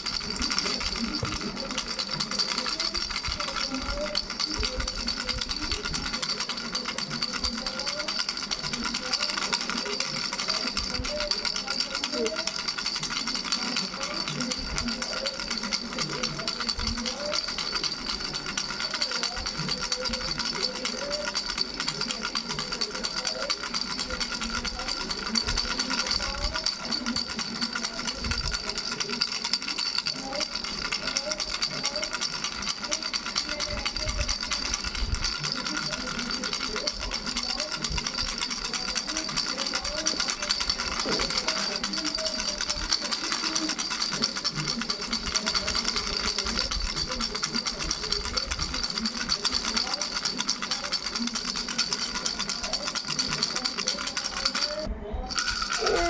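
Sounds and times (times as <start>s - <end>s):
baby rattle bells jingling: 0.0s - 56.0s.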